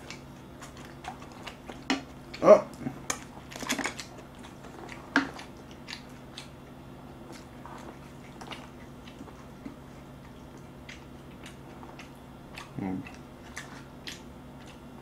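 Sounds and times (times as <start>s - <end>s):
person chewing and biting: 0.0s - 15.0s.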